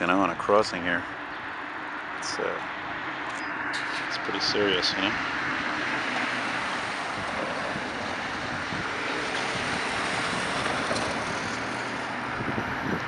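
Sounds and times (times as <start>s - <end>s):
distant city traffic: 0.0s - 13.0s
wind: 0.0s - 13.0s.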